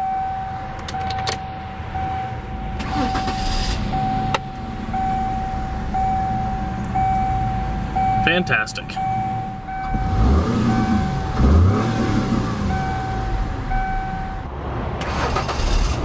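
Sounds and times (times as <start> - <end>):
dashboard warning chime: 0.0 - 14.5
car engine idling: 0.0 - 16.0.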